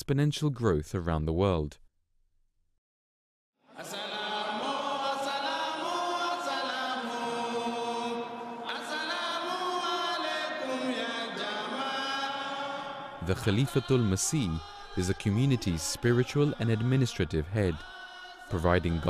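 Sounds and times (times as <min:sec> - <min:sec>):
many voices chanting in unison: 0:03.6 - 0:19.0.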